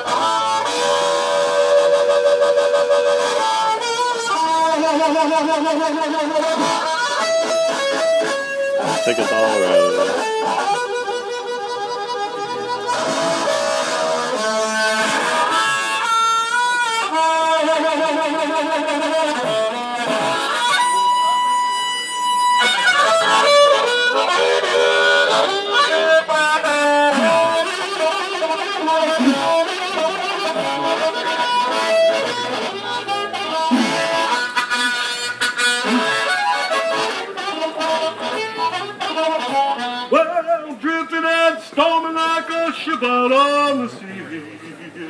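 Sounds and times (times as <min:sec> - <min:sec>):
harmonica melody: 0:00.0 - 0:45.0.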